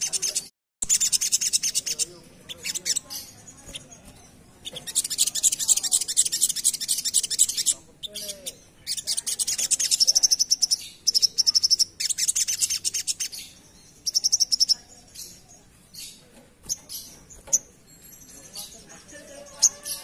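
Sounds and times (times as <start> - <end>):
bird chattering song: 0.0 - 20.0.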